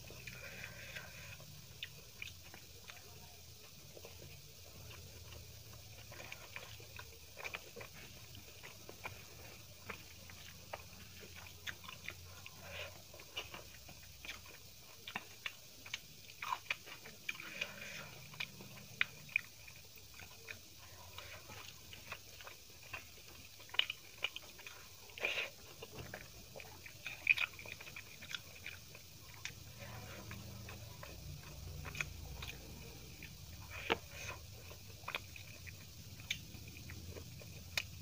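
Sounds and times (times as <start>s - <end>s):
chewing and eating: 0.0s - 38.0s.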